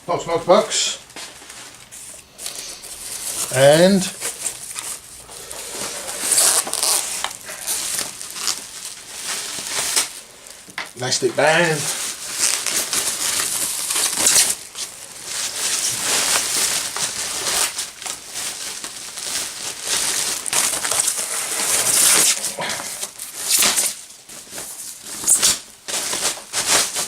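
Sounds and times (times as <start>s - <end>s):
plastic packaging crinkling: 0.5s - 27.0s.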